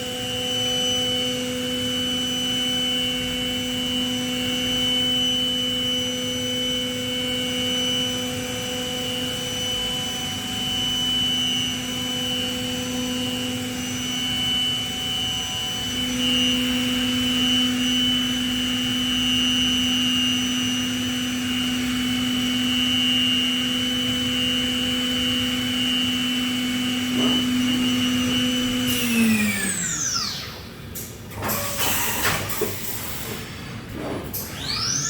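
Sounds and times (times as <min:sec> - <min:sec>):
machine spindle whine: 0:00.0 - 0:35.0.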